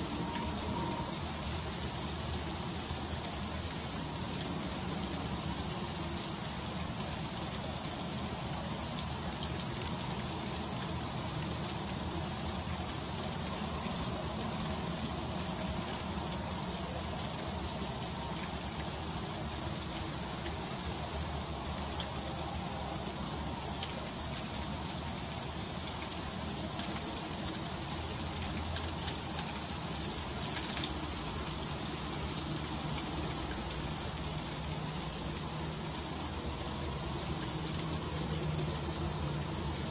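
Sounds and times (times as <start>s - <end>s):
freezing rain hissing: 0.0s - 39.9s.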